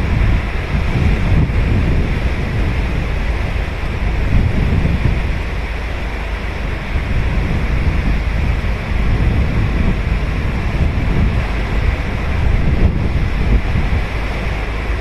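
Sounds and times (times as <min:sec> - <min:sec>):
ocean waves breaking on sand: 0:00.0 - 0:15.0.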